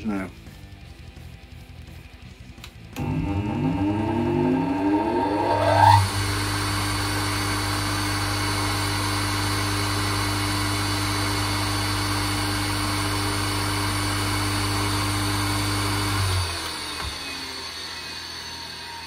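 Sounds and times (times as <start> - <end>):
electric motor hum and whine: 0.6 - 19.0.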